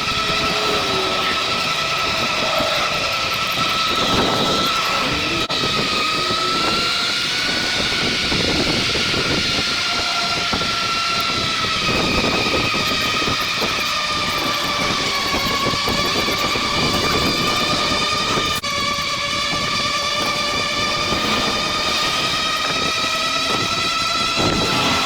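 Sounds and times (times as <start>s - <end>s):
electric bike motor whining: 0.0s - 25.0s
rushing wind: 0.0s - 25.0s.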